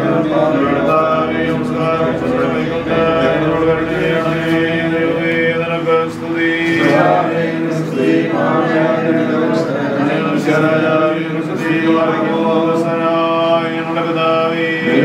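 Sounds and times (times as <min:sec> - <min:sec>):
slow prayer chanting: 0:00.0 - 0:15.0.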